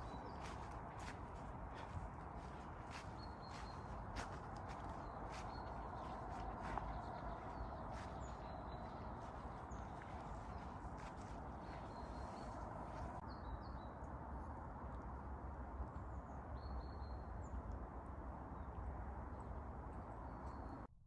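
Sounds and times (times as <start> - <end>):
low outdoor rumble: 0.0 - 20.9.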